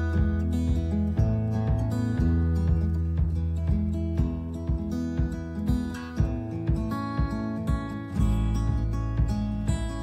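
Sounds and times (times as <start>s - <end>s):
steady beat: 0.0s - 10.0s
strummed acoustic guitar: 0.0s - 10.0s.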